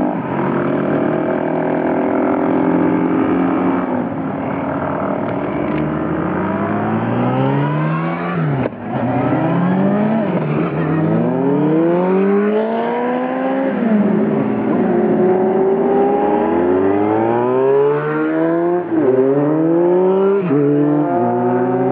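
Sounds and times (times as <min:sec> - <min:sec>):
motorcycle engines accelerating: 0:00.0 - 0:21.9.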